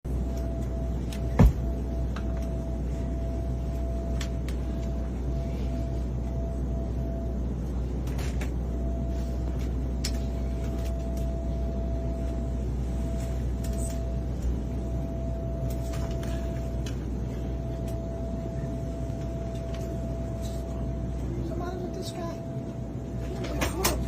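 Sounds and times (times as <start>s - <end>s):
airliner engine rumble: 0.1s - 24.0s
thin steady whine: 0.1s - 24.0s.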